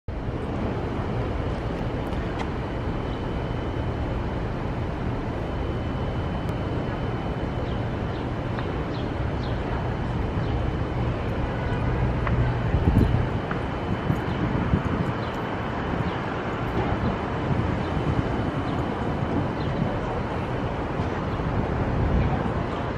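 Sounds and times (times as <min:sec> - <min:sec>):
faint high steady tone: 0:00.1 - 0:22.9
traffic rumble: 0:00.1 - 0:22.9.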